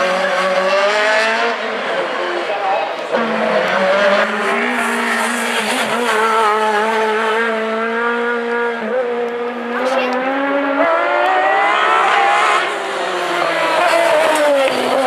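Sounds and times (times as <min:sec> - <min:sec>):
race car engine at high revs: 0:00.0 - 0:15.0.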